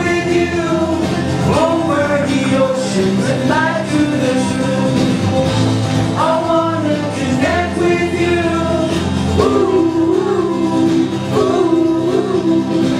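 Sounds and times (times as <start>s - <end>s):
man singing into microphone: 0.0s - 5.3s, 6.1s - 12.9s
acoustic guitar: 0.0s - 12.9s.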